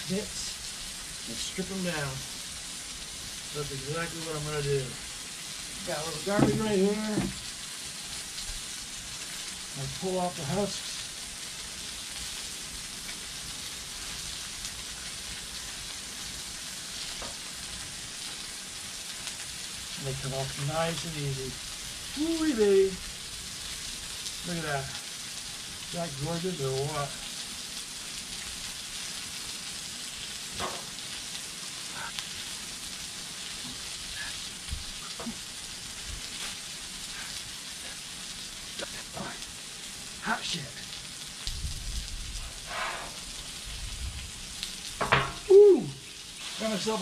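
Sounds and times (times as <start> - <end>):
food sizzling on a griddle: 0.0 - 47.0.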